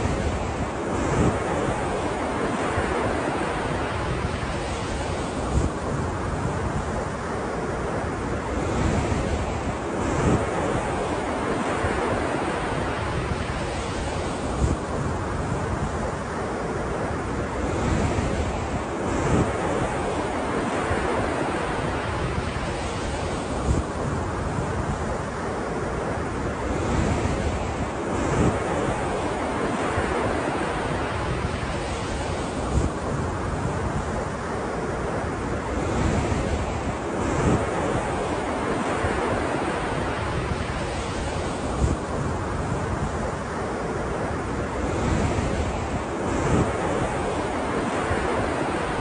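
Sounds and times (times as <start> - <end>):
ocean waves breaking on shore: 0.0 - 49.0
wind buffeting microphone: 0.0 - 49.0.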